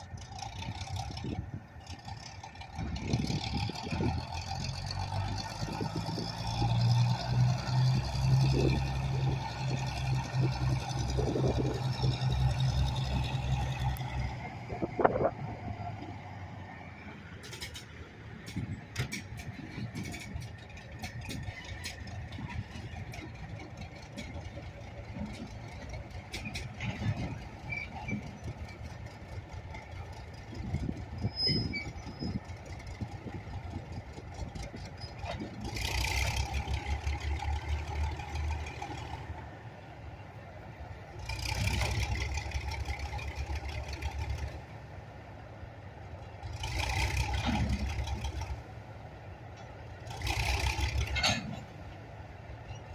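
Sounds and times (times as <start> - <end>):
diesel locomotive rumbling: 0.0 - 52.9.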